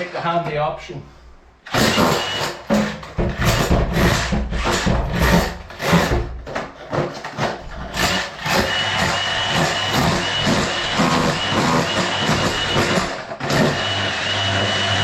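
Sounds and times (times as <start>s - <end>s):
tool scraping concrete floor: 1.7s - 15.0s.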